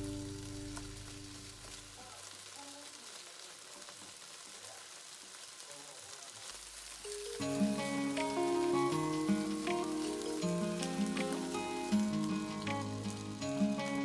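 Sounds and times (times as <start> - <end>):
bacon sizzling in frying pan: 0.0 - 14.0.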